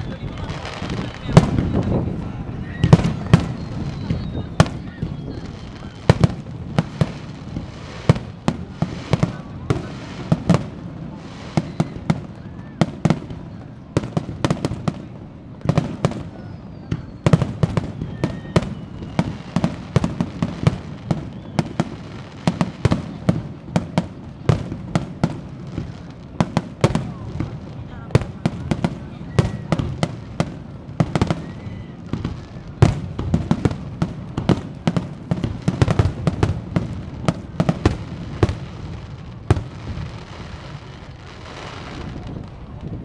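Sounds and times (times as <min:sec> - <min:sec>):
faint firework whistles: 0:00.0 - 0:43.0.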